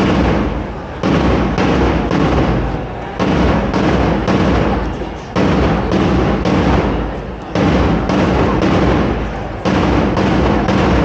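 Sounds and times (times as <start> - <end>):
distorted booming beat: 0.0 - 11.0.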